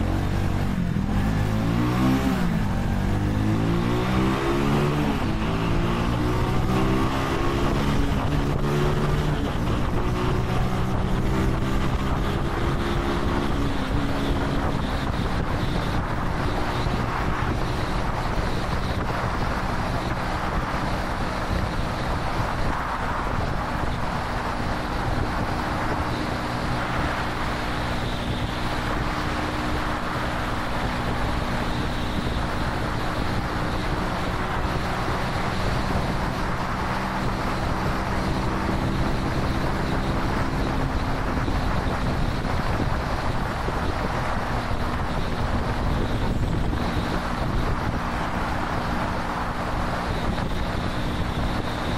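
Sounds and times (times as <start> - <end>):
wind rush on microphone: 0.0 - 51.9.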